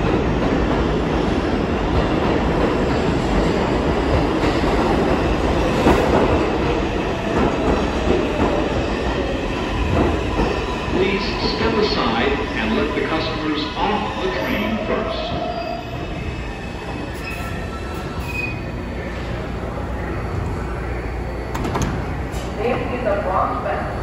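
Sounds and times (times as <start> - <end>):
subway train rumbling on rails: 0.0 - 24.0.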